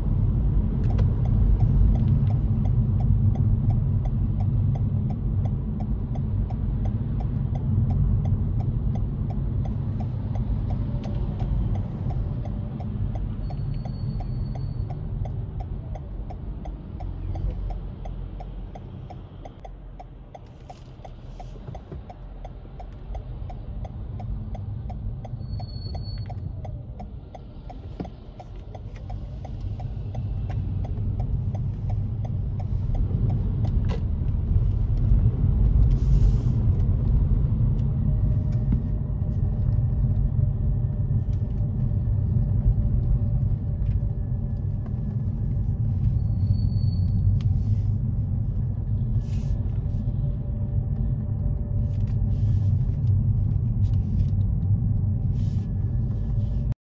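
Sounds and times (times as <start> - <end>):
car engine and road rumble: 0.0 - 56.8
turn signal ticking: 0.0 - 56.8.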